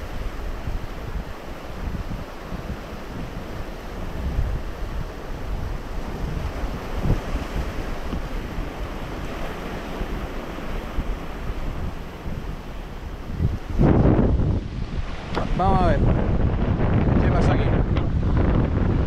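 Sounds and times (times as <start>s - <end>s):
ocean surf rushing: 0.0s - 19.0s
wind buffeting microphone: 0.0s - 19.0s.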